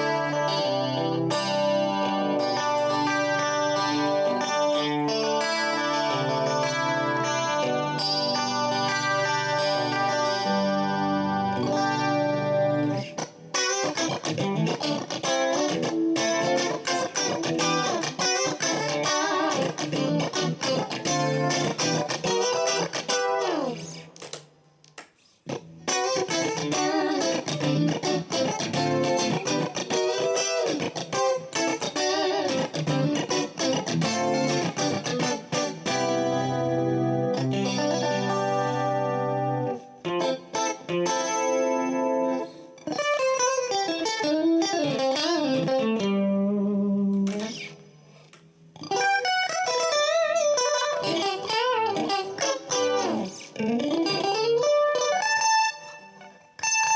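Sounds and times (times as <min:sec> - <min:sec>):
clean electric guitar: 0:00.0 - 0:56.9.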